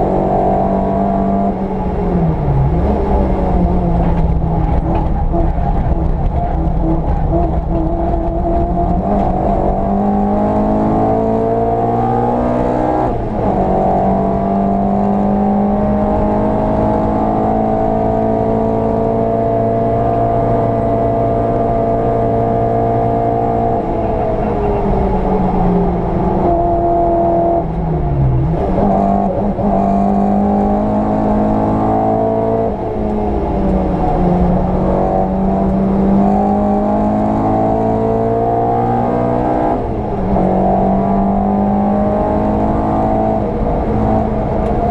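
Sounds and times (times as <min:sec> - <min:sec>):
car engine revving under load: 0:00.0 - 0:44.9.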